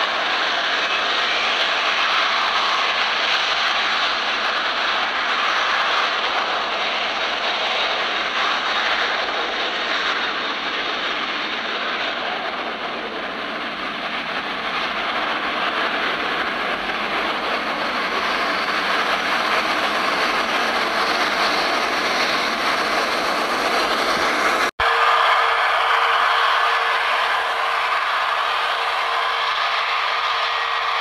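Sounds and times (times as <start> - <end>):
jet engines taxiing: 0.0 - 31.0.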